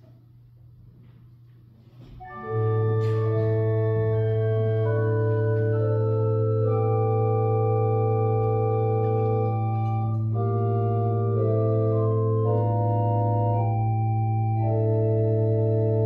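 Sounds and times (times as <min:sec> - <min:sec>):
organ playing slow chords: 0:02.2 - 0:16.0.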